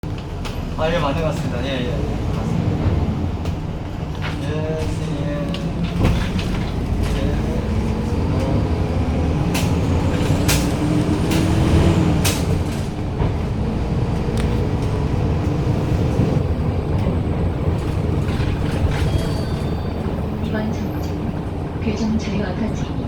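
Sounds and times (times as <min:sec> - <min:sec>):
bus engine running: 0:00.0 - 0:23.0.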